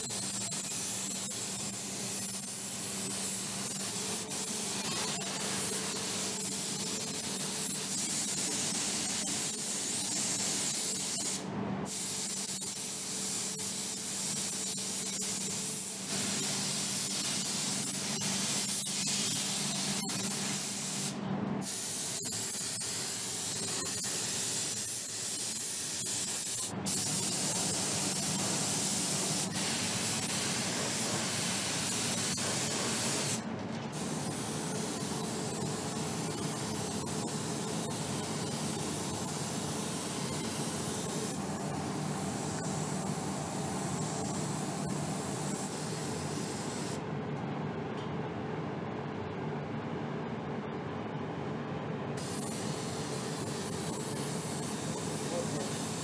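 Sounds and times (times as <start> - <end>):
paint spray gun hissing: 0.0 - 33.4, 34.0 - 47.0, 52.2 - 56.0.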